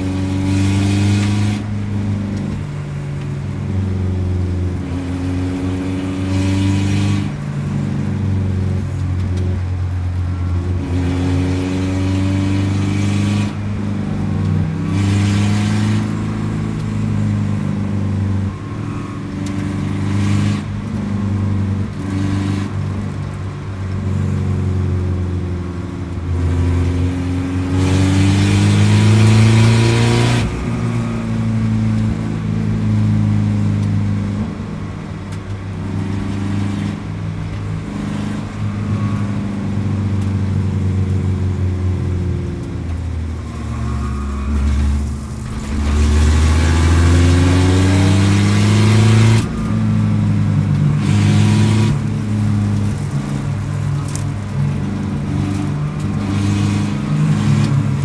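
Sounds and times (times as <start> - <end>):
race car engine revving: 0.0 - 25.5, 26.3 - 58.0
wind and road noise: 0.0 - 58.0.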